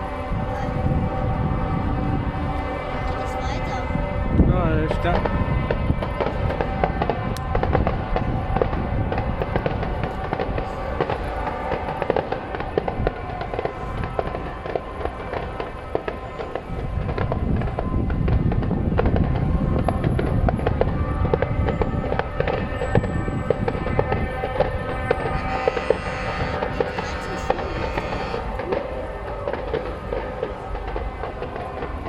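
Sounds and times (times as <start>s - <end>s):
fireworks cracking and popping: 4.8s - 32.0s.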